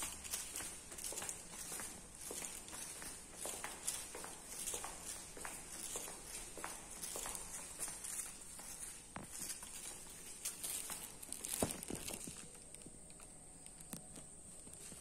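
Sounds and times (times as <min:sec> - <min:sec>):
footsteps on tiled floor: 0:00.0 - 0:15.0.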